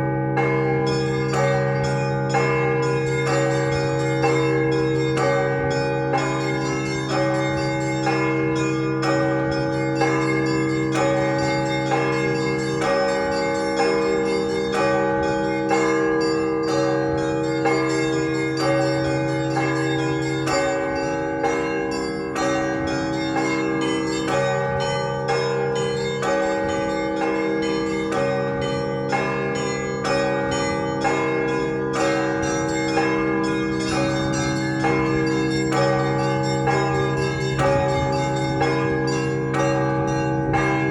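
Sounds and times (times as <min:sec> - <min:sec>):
deep large bells ringing: 0:00.0 - 0:40.9
small church bells rapid pattern: 0:00.0 - 0:40.9.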